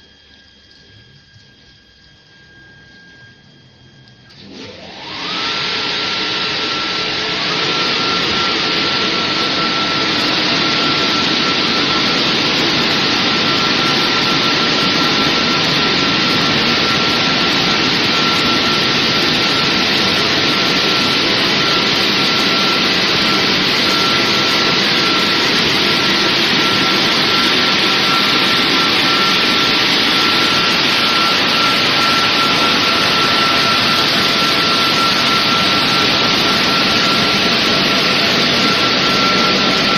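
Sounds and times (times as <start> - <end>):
steady machine whine: 0.0 - 39.9
car wash rushing: 4.3 - 39.9.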